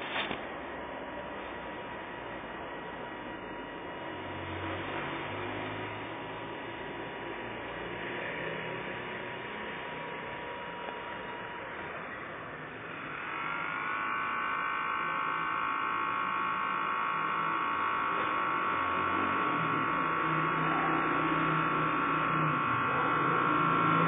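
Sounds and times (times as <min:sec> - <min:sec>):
small electric motor whine: 0:00.0 - 0:24.0.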